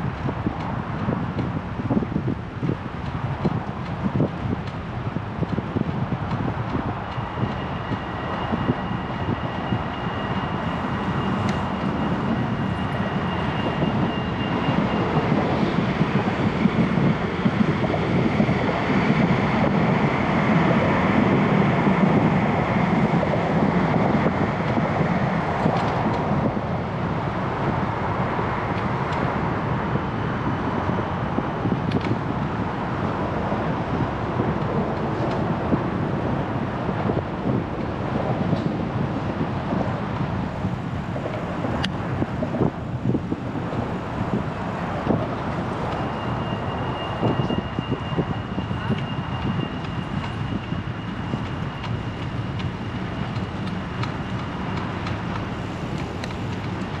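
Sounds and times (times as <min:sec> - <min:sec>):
passing street traffic: 0:00.0 - 0:57.0
wind noise on microphone: 0:00.0 - 0:57.0.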